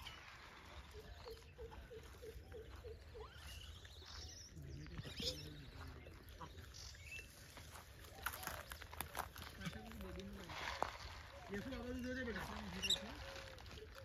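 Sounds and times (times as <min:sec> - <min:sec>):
birdsong: 0:00.0 - 0:14.0.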